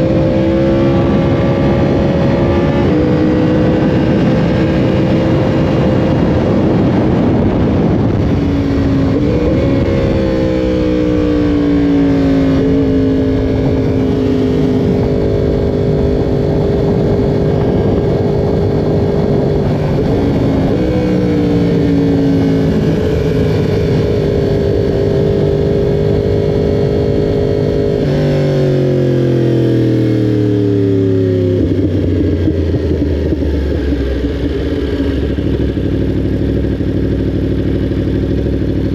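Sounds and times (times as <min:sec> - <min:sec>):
wind rush: 0:00.0 - 0:36.3
motorcycle engine revving hard: 0:00.0 - 0:38.9.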